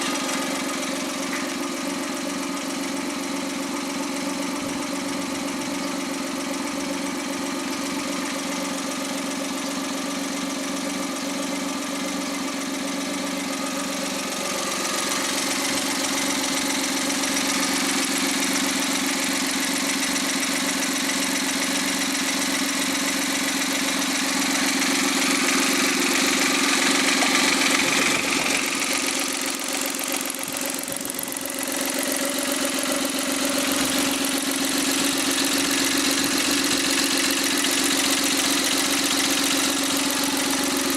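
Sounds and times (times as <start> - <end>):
turbo engine idling: 0.0 - 40.9.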